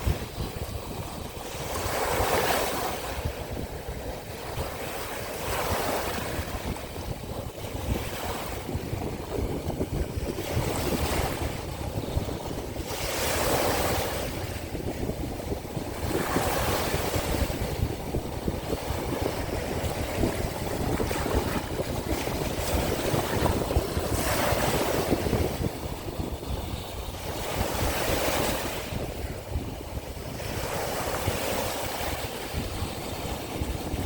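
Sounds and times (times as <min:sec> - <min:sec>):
sea waves washing onto shore: 0:00.0 - 0:34.0
wind rumbling on microphone: 0:00.0 - 0:34.0.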